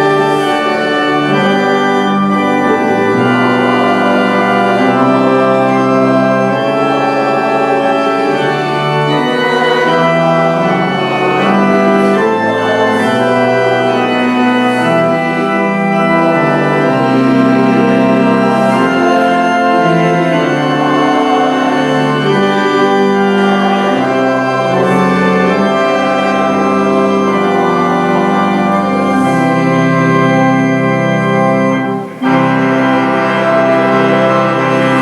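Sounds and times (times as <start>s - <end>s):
church organ chords: 0.0s - 35.0s.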